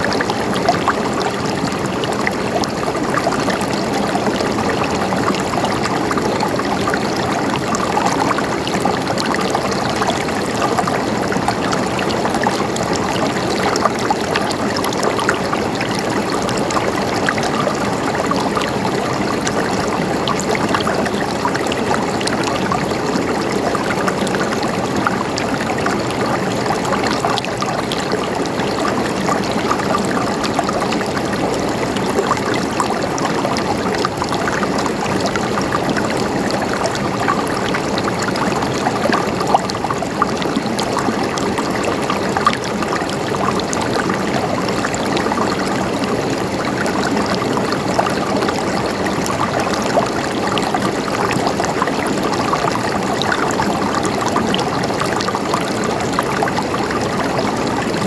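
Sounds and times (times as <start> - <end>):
flowing water gurgling: 0.0 - 58.0.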